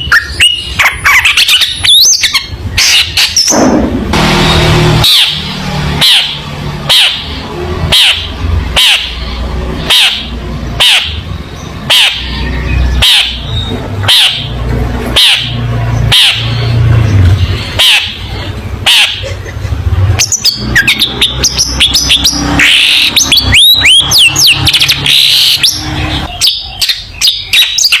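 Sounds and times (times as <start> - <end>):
bird harsh squawking calls: 0.0 - 3.8, 4.4 - 19.4, 20.0 - 28.0.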